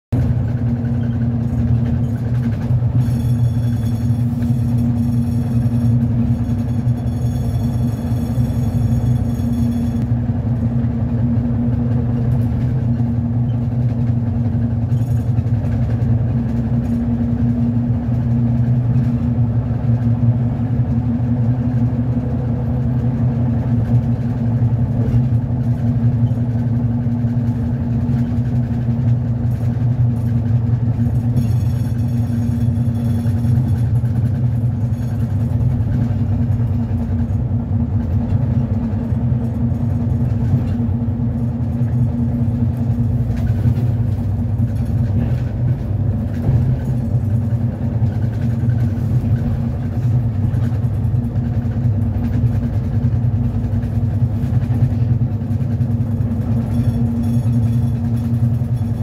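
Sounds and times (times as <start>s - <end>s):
bus engine hum and cabin drone: 0.1s - 59.0s.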